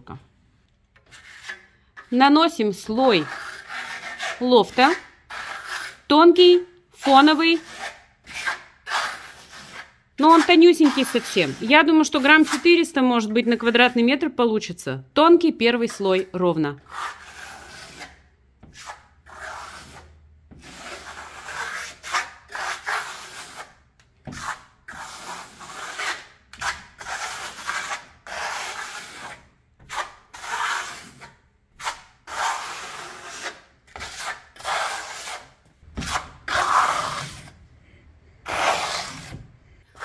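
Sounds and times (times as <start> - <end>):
trowel scraping plaster on wall: 1.0 - 13.9, 15.8 - 37.6, 38.4 - 40.0.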